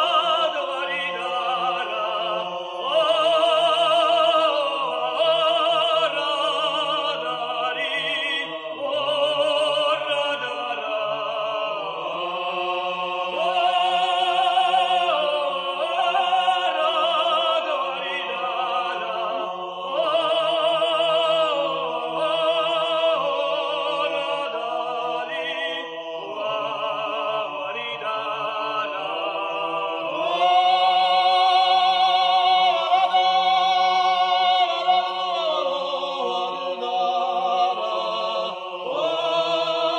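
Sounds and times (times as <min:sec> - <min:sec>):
person singing with vibrato: 0:00.0 - 0:39.9.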